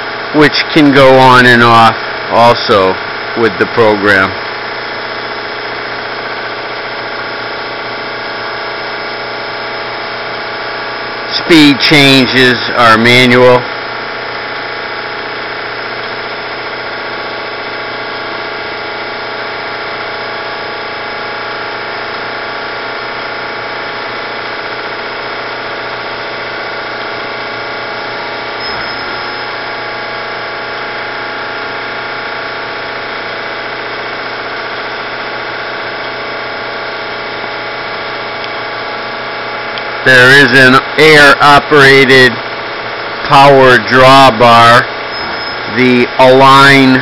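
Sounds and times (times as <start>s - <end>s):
milling machine droning: 0.0s - 47.0s.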